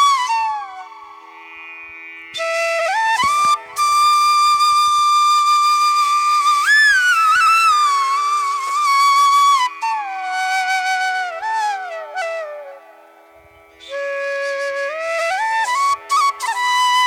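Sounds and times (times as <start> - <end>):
solo flute melody: 0.0 - 1.5, 2.3 - 17.0.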